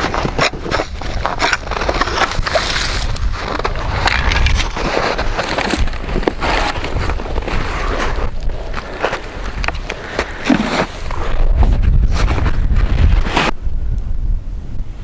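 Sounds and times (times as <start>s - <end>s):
ice auger and gear scraping: 0.0s - 13.6s
wind buffeting microphone: 0.0s - 15.0s.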